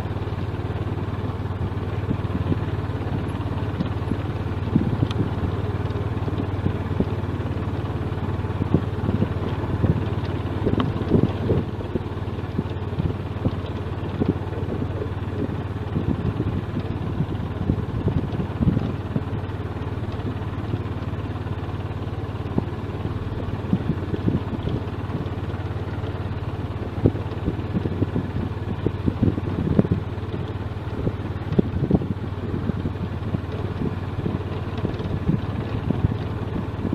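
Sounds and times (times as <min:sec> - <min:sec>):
vehicle engine and road noise: 0:00.0 - 0:36.9.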